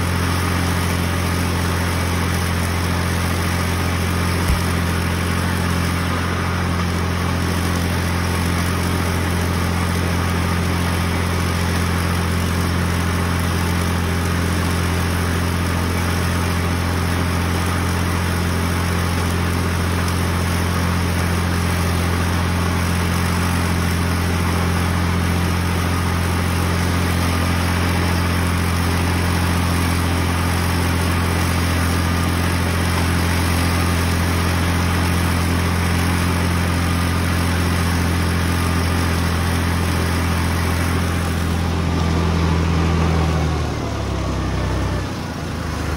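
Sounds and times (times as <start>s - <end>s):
belt-driven mower cutting plants: 0.0s - 45.9s
tractor engine running steadily: 0.0s - 45.9s.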